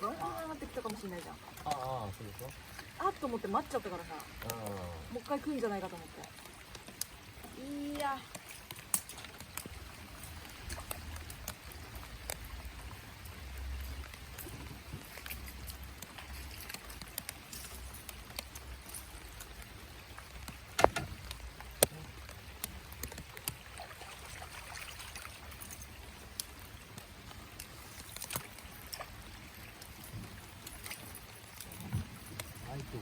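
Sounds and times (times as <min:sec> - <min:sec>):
light rain pattering on water: 0:00.0 - 0:33.0
drip ticks: 0:00.1 - 0:33.0.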